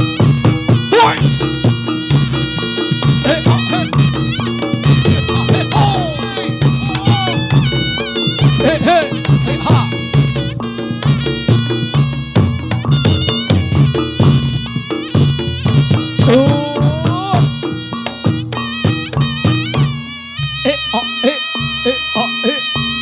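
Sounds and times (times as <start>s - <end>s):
rapid hand drum strokes: 0.0s - 23.0s
reedy shawm melody: 0.0s - 23.0s.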